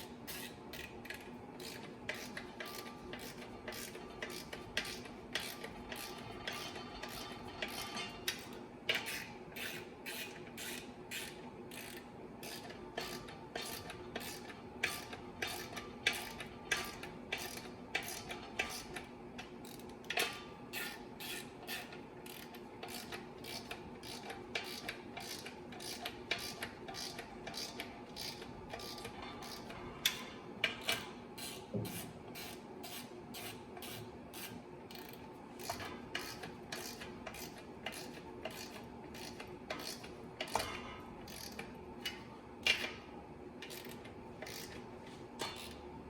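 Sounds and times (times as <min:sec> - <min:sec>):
ratchet wrench clicking: 0:00.3 - 0:43.0, 0:43.6 - 0:44.8, 0:45.4 - 0:45.8.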